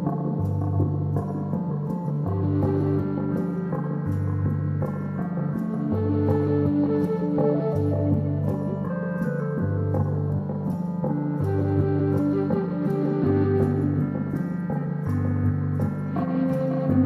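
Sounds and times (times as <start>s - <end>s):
meditative electronic music: 0.0s - 17.0s.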